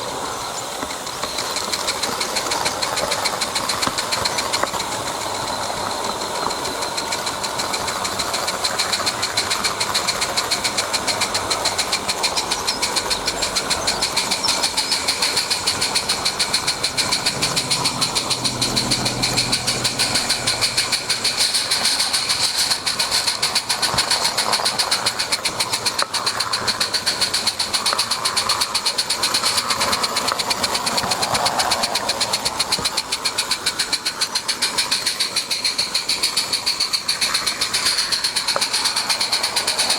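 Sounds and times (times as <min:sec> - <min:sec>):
hiss: 0:00.0 - 0:39.9
model train clicking on track: 0:00.0 - 0:39.9.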